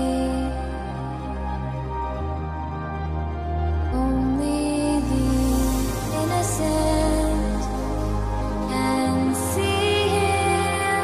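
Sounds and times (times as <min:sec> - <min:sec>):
slow sustained chords: 0:00.0 - 0:11.0.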